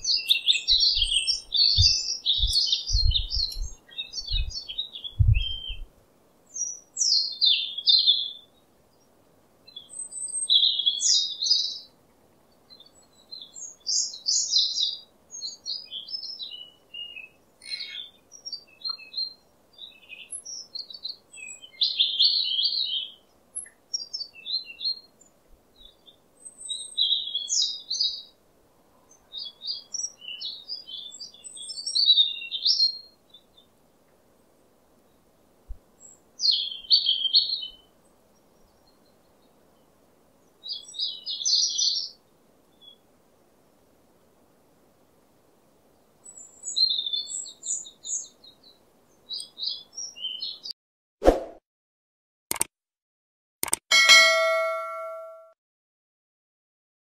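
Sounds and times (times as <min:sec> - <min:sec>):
wild birds chirping: 0:00.0 - 0:50.7.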